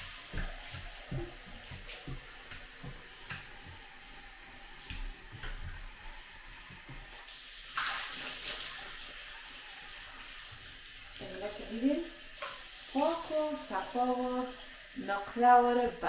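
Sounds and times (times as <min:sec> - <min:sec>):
water splashing on countertop: 0:00.0 - 0:15.3
faucet running into sink: 0:00.0 - 0:16.0.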